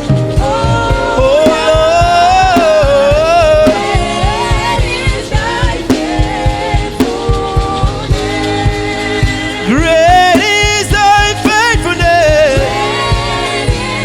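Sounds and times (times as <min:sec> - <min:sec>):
band with steady drum beat: 0:00.0 - 0:14.0
person singing wordless line: 0:00.4 - 0:07.9, 0:09.6 - 0:13.2.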